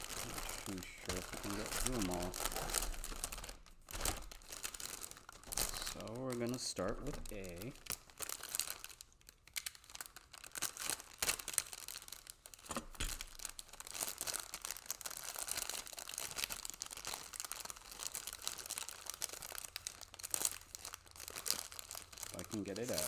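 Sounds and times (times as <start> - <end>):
plastic bag crinkling and tearing: 0.0 - 23.0.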